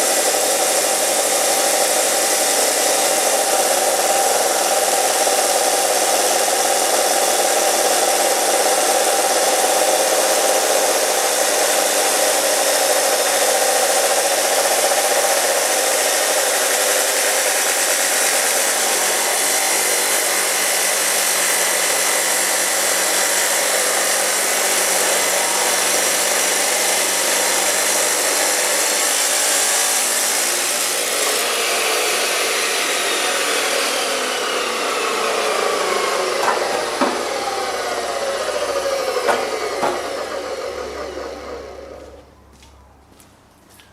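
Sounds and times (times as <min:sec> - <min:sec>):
cut-off saw grinding steel: 0:00.0 - 0:42.2.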